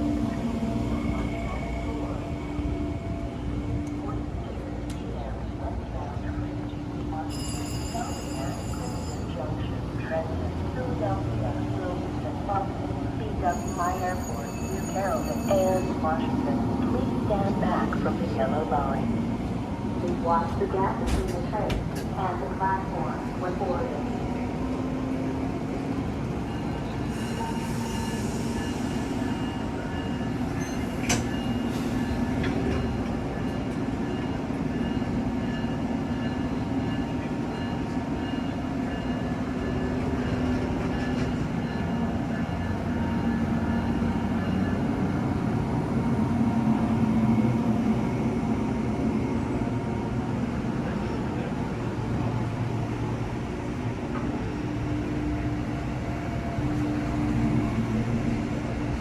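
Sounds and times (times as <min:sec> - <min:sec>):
passenger train humming: 0:00.0 - 0:59.0.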